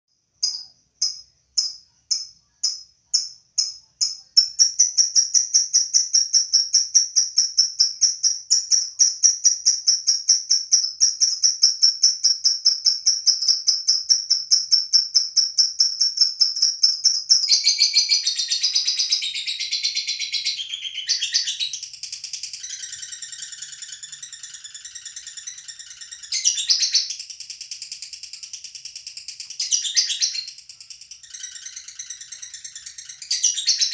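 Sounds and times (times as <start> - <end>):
bird chirping and chattering: 0.4 - 33.9.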